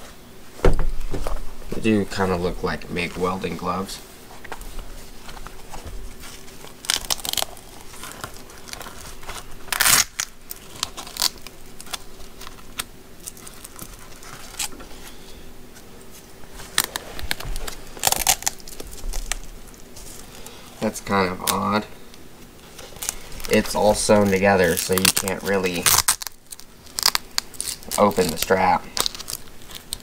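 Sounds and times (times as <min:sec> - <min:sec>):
leather gloves rustling and crinkling: 0:00.5 - 0:30.0.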